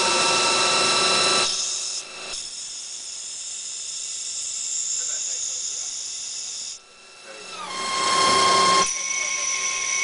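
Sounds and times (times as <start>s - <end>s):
lathe spindle whine: 0.0s - 10.0s
metal cutting noise: 0.0s - 10.0s.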